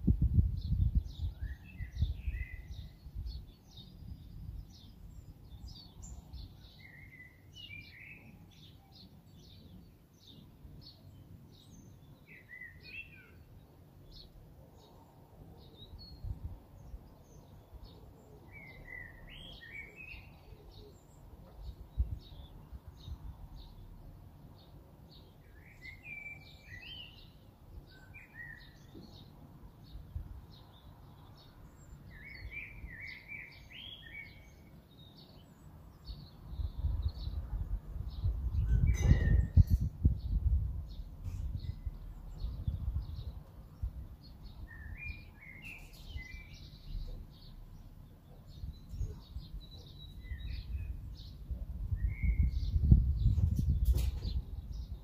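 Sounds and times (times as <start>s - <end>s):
warbled bird song: 0.0s - 55.0s.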